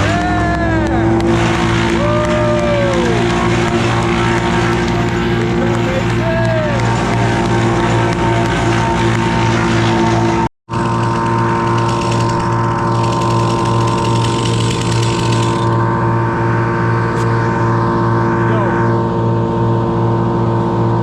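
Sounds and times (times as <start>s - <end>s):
engine throbbing: 0.0s - 21.0s.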